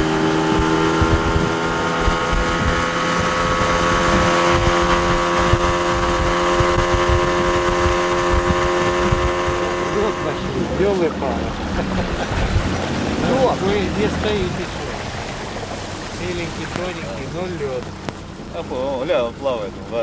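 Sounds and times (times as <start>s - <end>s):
low buffeting: 0.0s - 20.0s
outboard motor running: 0.0s - 20.0s.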